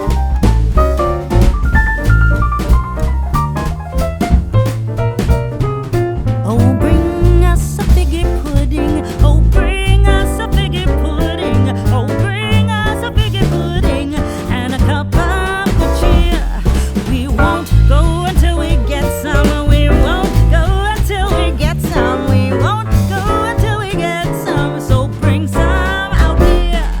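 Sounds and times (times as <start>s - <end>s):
music with shifting bass line: 0.0s - 27.0s.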